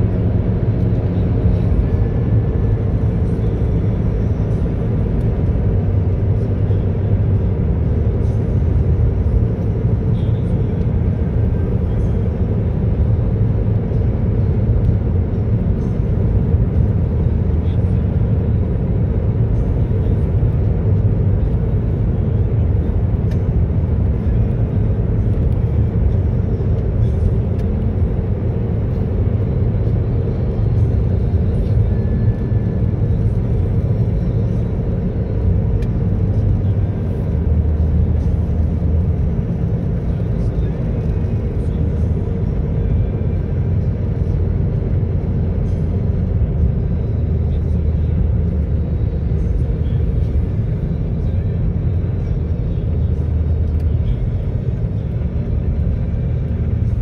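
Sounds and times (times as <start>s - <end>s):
road and wind rumble in car: 0.0s - 57.0s.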